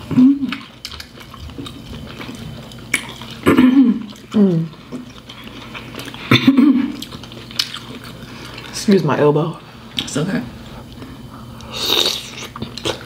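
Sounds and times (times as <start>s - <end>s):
wet eating sounds: 0.0s - 13.0s.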